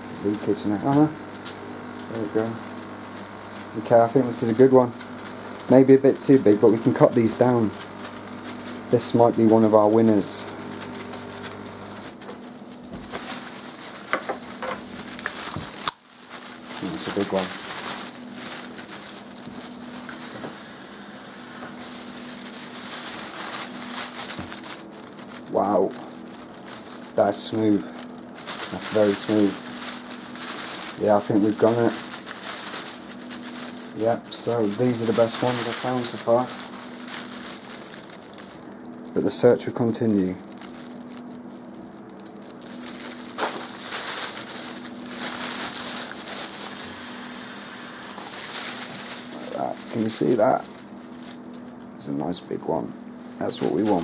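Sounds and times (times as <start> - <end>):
electric air pump humming: 0.0 - 54.0
plastic bag rustling: 0.0 - 54.0.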